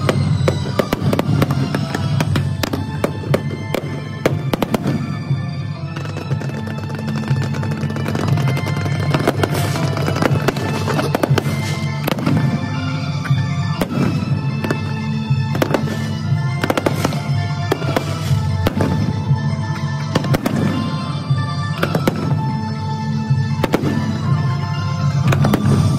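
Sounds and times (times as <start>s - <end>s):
fireworks bursting: 0.0s - 25.9s
music: 0.0s - 25.9s.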